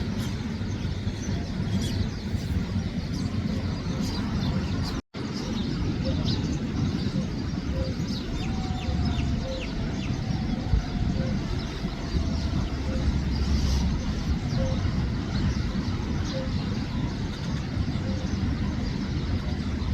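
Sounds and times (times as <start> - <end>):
low rumble of traffic: 0.0 - 19.9
sparrows chirping: 0.0 - 19.9.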